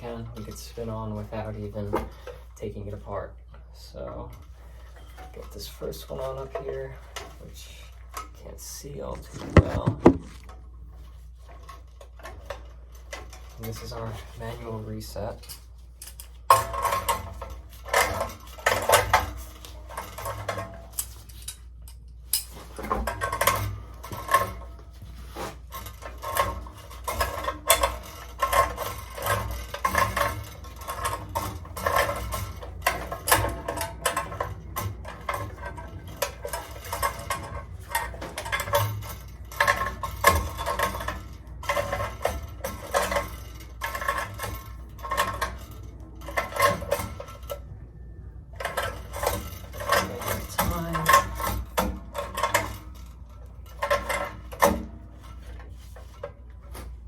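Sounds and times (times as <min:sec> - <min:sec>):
metal wrench clinks and scrapes: 0:04.3 - 0:47.7, 0:48.6 - 0:57.0.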